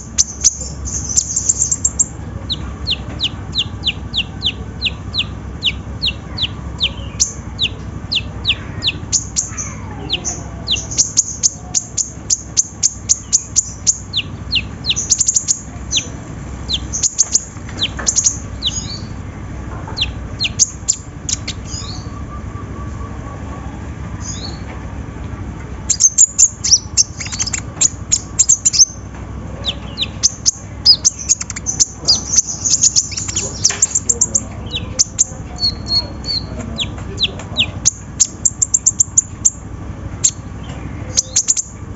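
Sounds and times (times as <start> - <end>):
sunbird chips and twitters: 0.0 - 19.2, 19.9 - 23.4, 25.8 - 39.6, 40.2 - 41.8.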